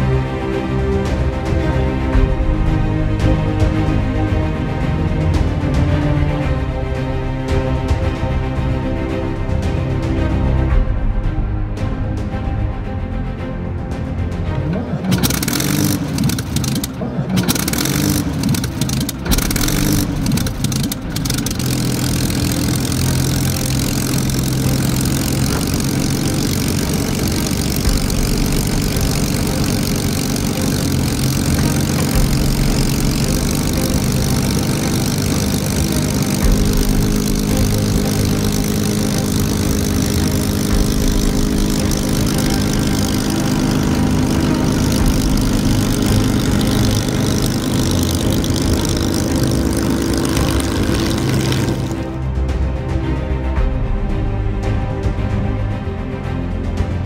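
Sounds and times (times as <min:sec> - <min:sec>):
aircraft engine starting and idling: 0:00.0 - 0:52.7.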